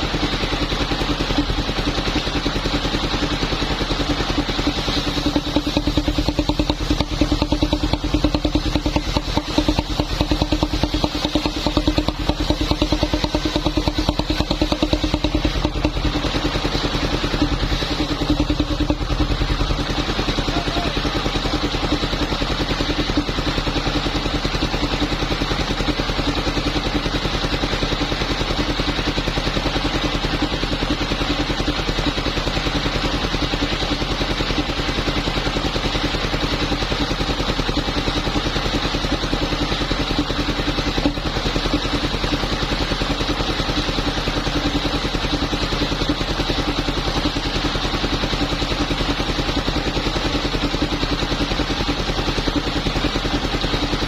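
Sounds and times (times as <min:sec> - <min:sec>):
engine-driven wood saw cutting: 0:00.0 - 0:54.0.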